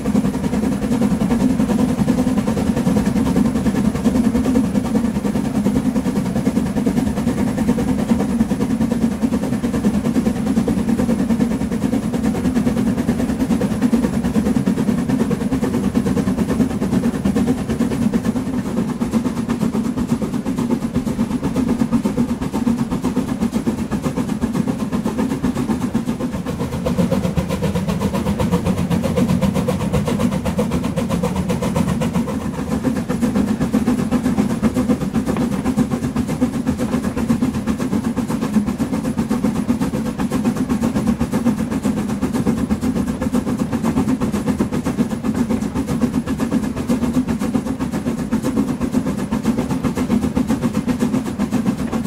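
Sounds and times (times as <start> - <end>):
steam locomotive exhaust chuffs: 0.0 - 52.0
train rumbling on rails: 0.0 - 52.0.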